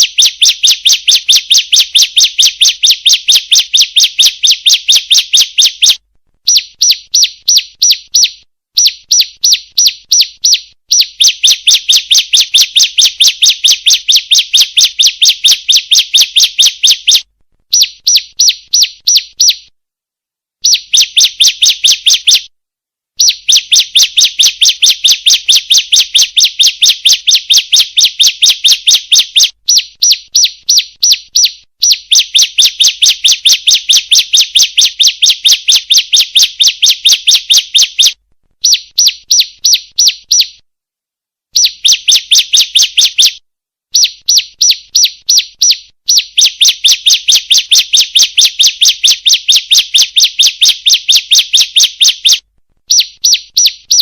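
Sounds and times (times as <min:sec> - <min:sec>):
bird high chirps: 0:00.0 - 0:19.7, 0:20.6 - 0:22.5, 0:23.2 - 0:40.6, 0:41.5 - 0:54.0.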